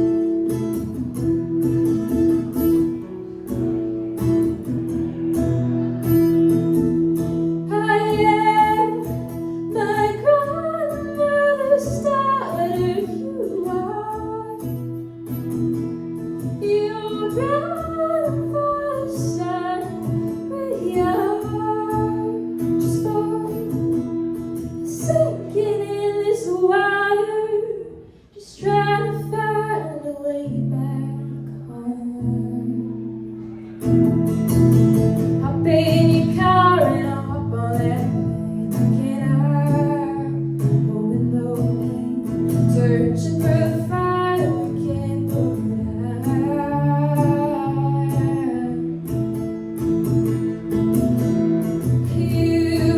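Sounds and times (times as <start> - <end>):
strummed acoustic guitar: 0.0 - 52.9
woman singing: 7.6 - 33.3, 35.2 - 52.9.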